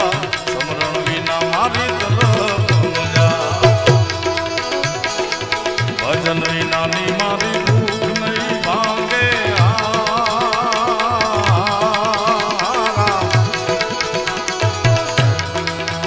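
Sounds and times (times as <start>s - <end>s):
harmonium: 0.0s - 16.0s
tabla strokes: 0.0s - 16.0s
high wobbling melody: 0.6s - 16.0s.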